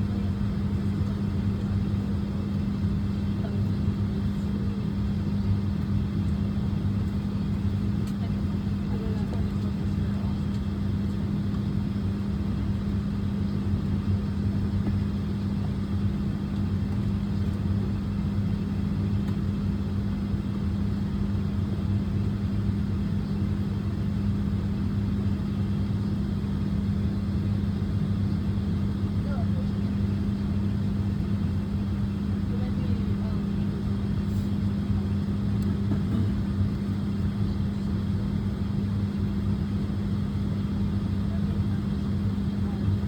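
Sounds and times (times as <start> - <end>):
low hum with rumble: 0.0 - 43.0.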